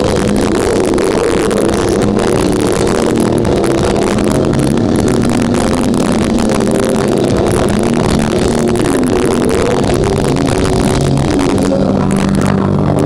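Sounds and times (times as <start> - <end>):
death metal band playing live: 0.0 - 13.0.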